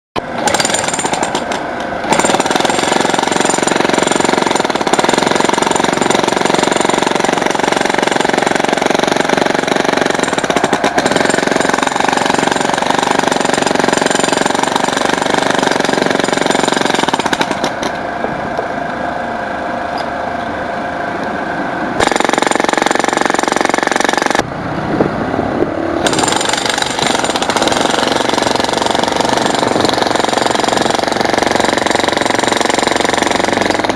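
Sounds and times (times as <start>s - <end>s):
jackhammer hammering concrete: 0.4s - 18.0s, 22.0s - 24.4s, 26.0s - 33.9s.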